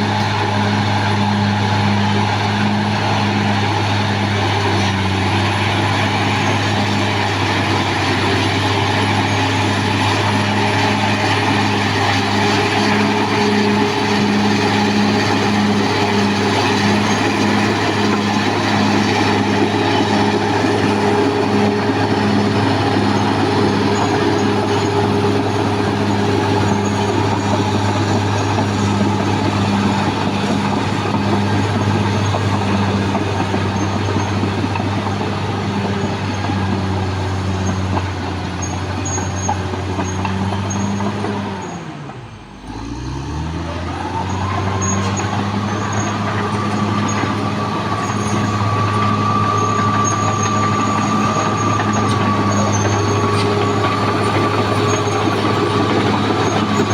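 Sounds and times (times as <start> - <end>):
bulldozer diesel engine humming: 0.0 - 56.9.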